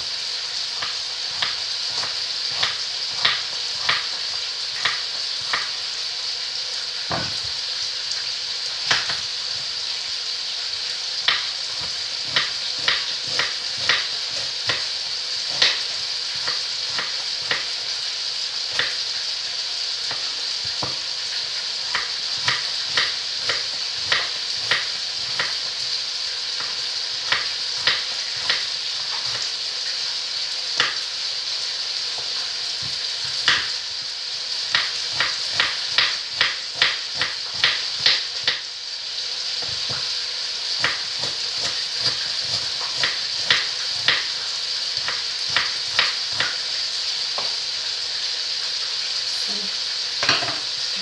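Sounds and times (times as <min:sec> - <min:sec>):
meat sizzling in hot oil: 0:00.0 - 0:51.0.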